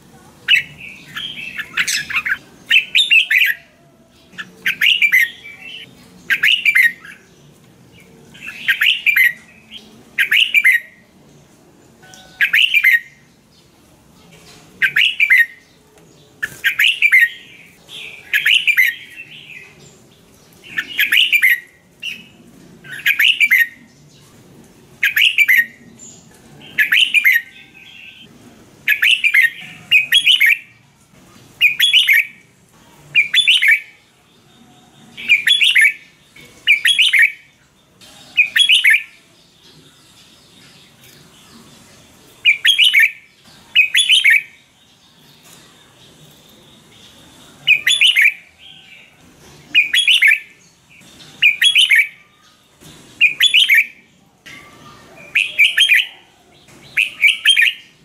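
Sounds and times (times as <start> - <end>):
bird singing: 0.5 - 11.1, 12.0 - 13.6, 14.8 - 24.4, 25.0 - 28.3, 28.9 - 30.8, 31.6 - 32.4, 33.1 - 58.0.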